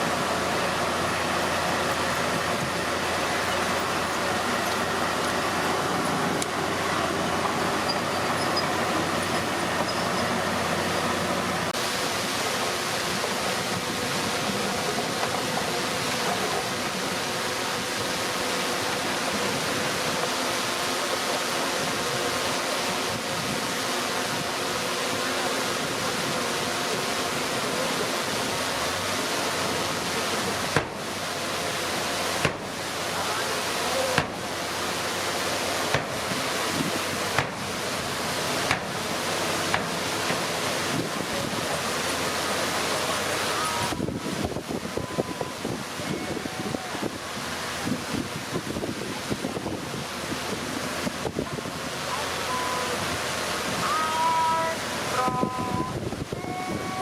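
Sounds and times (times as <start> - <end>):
diesel engine running: 0.0 - 56.4
heavy hiss of noise: 0.0 - 57.0.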